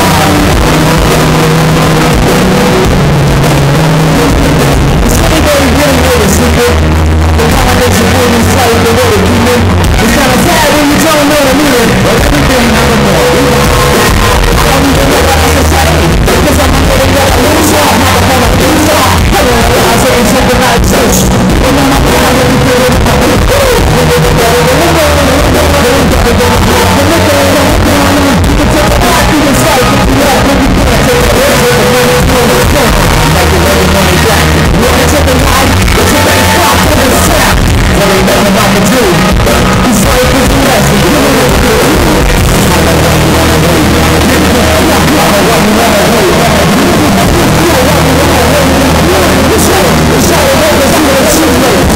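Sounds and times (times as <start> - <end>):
electric guitar playing: 0.0 - 51.9
heavy bass: 0.0 - 51.9
live rock band: 0.0 - 51.9
person singing: 0.0 - 51.9.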